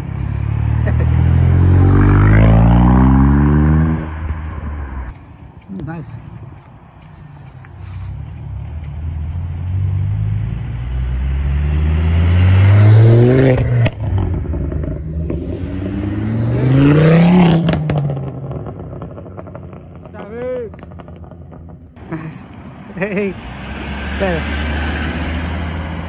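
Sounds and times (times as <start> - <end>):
car engine accelerating hard: 0.0 - 5.1, 8.5 - 26.0.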